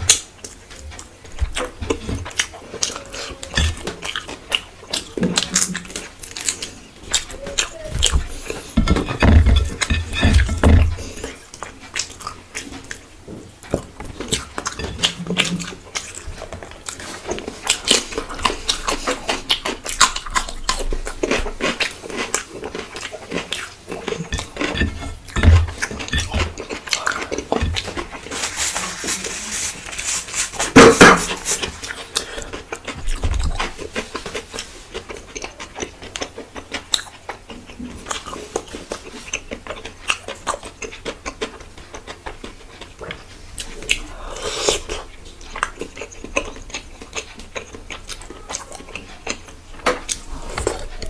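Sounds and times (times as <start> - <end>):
wet chewing and lip-smacking: 0.0 - 28.4, 31.3 - 51.0.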